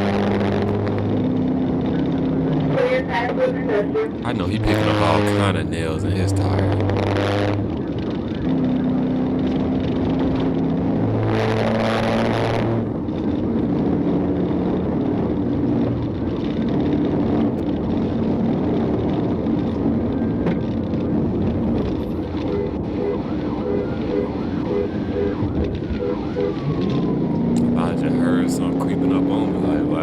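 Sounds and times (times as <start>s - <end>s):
car engine at speed: 0.0s - 30.0s
road noise: 0.0s - 30.0s.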